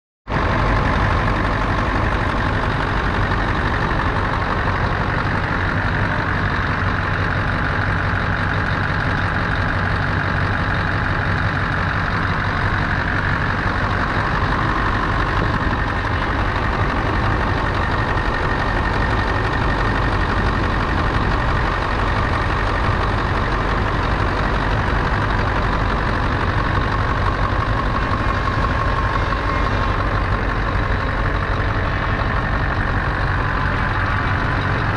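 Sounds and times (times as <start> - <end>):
diesel engine idling: 0.3 - 34.9.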